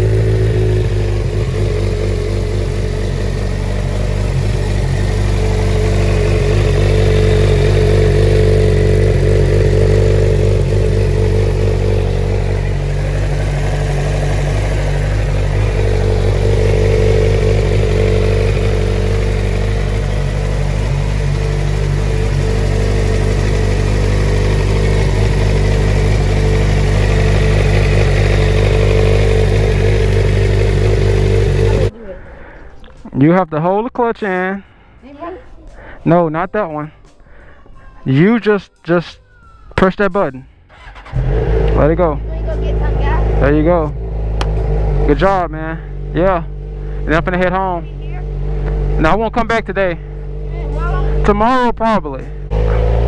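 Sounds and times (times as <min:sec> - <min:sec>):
motorcycle engine idling: 0:00.0 - 0:32.0, 0:40.6 - 0:53.0.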